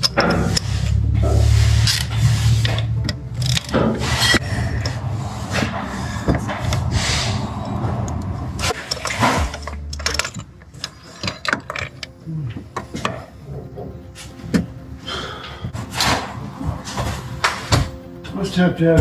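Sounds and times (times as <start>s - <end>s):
scraping: 0.0s - 19.0s.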